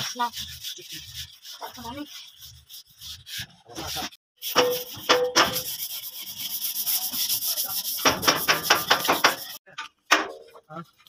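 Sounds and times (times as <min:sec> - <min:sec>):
cloth rag scrubbing metal: 0:00.0 - 0:09.6.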